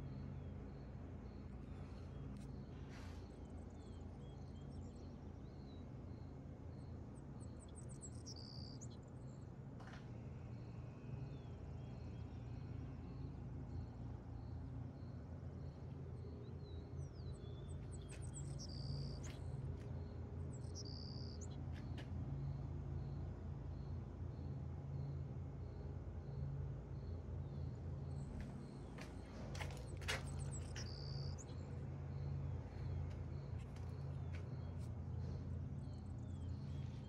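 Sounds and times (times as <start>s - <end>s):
faint ticking chirp: 0.0s - 9.4s, 12.0s - 37.0s
steady low hum: 0.0s - 37.0s.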